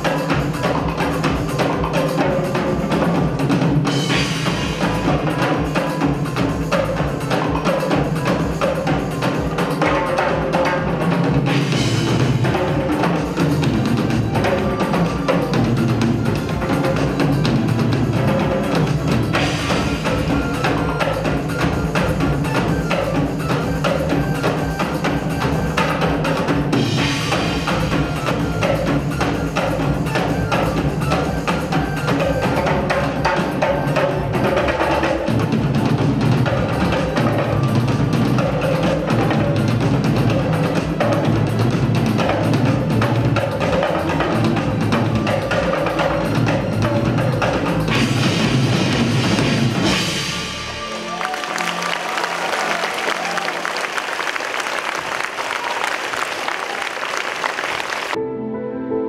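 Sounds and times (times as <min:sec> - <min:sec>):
belly dance music: 0:00.0 - 0:58.2
hand drums and drum kit: 0:00.0 - 0:58.2.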